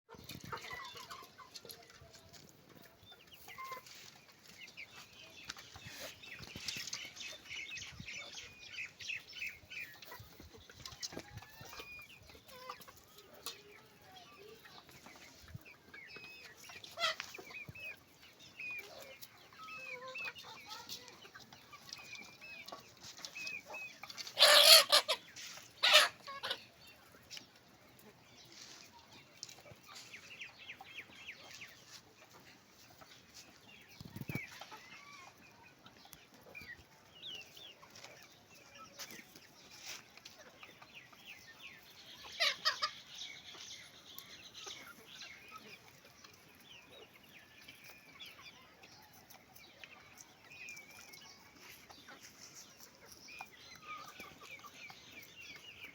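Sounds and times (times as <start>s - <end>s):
chickens clucking and peeping: 0.1s - 55.9s.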